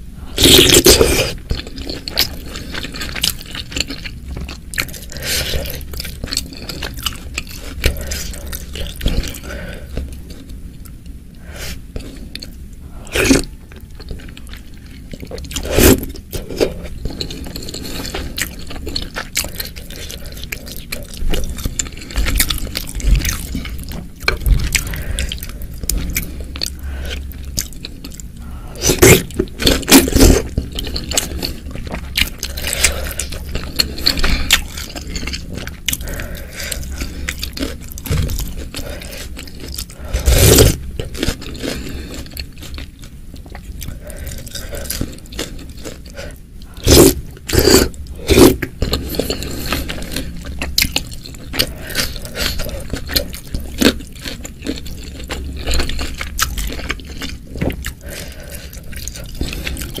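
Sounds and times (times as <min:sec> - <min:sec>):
wet chewing: 0:00.4 - 0:11.0, 0:12.0 - 1:00.0.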